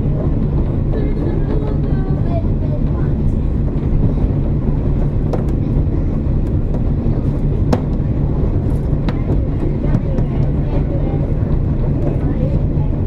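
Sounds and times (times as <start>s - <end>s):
railcar engine and wheels droning: 0.0s - 13.0s.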